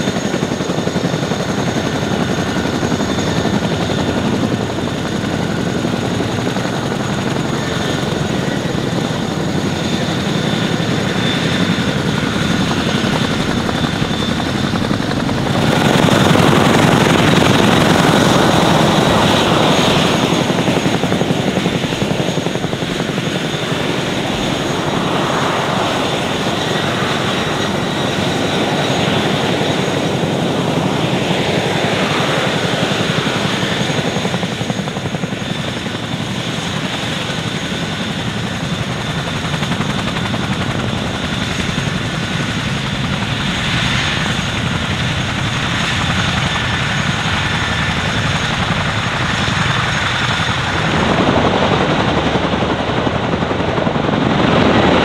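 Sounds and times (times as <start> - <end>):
helicopter rotor chop: 0.0 - 55.0
turbine engine whine: 0.0 - 55.0.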